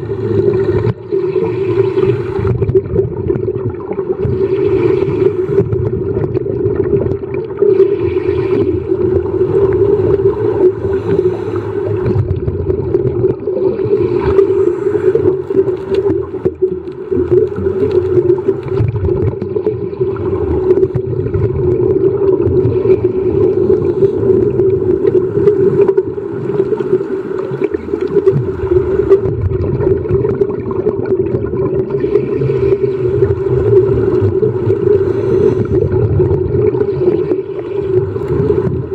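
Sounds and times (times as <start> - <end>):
underwater low drone: 0.0 - 38.9.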